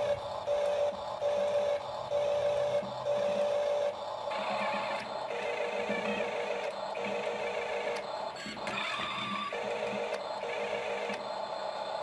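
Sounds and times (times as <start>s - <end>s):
toy electric motor whining: 0.0s - 12.0s.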